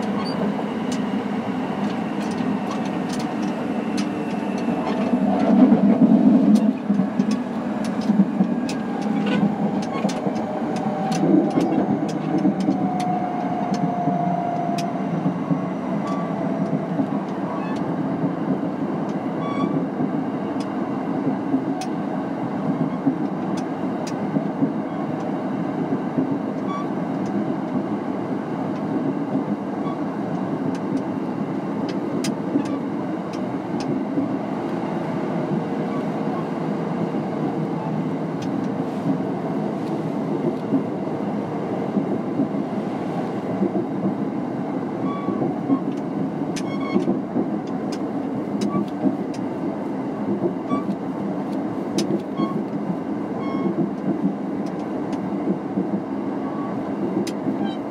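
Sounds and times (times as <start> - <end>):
train wheels rumbling: 0.0 - 57.9.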